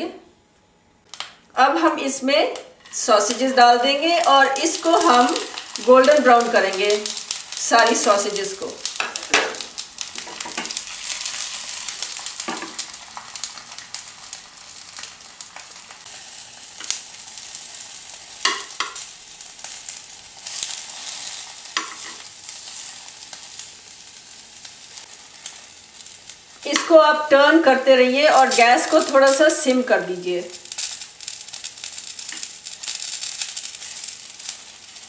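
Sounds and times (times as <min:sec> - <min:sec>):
sausages sizzling in frying pan: 0:02.8 - 0:35.0.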